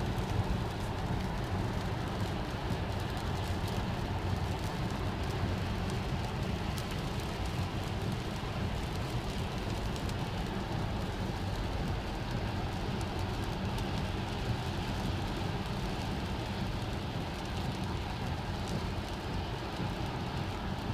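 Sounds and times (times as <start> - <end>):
rain and spray hitting car: 0.0 - 20.9
road and tyre noise: 0.0 - 20.9.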